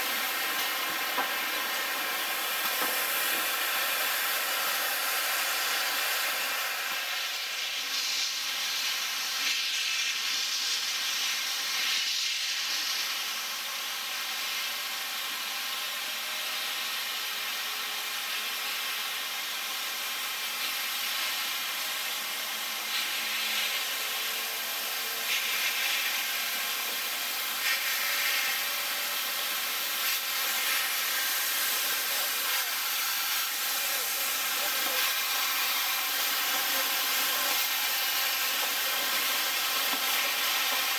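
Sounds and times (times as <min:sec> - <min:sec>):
steam locomotive hissing: 0:00.0 - 0:40.9.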